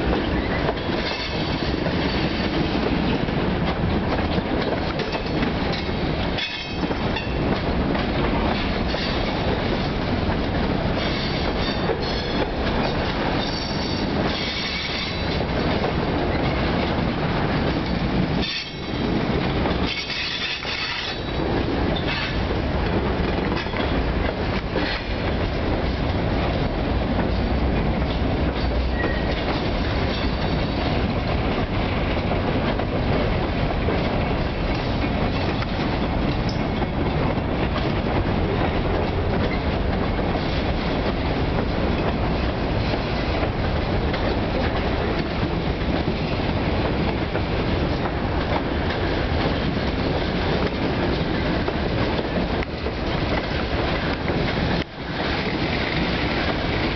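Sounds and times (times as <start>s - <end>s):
train wheels clattering over rail joints: 0.0s - 56.9s.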